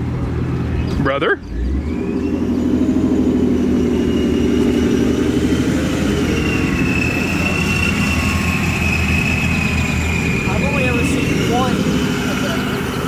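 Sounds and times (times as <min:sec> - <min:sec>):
car engine idling: 0:00.0 - 0:13.0
thin high whine: 0:01.9 - 0:13.0.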